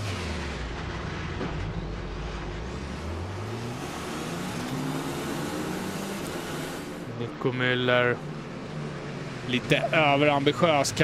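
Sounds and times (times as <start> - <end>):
racing car engine accelerating: 0.0 - 11.0
wind: 0.0 - 11.0.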